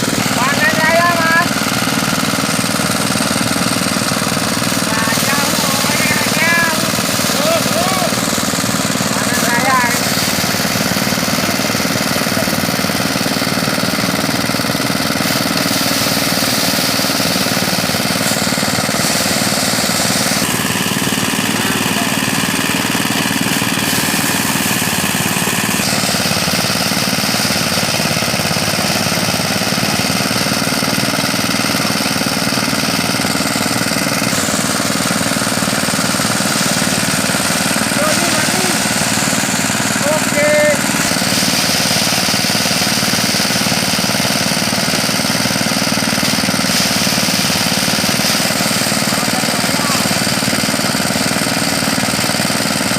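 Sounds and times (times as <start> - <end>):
rice thresher running: 0.0 - 52.9.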